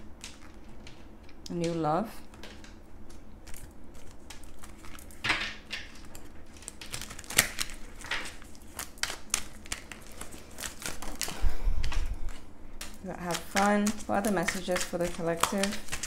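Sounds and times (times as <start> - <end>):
cards shuffling: 3.1 - 16.0.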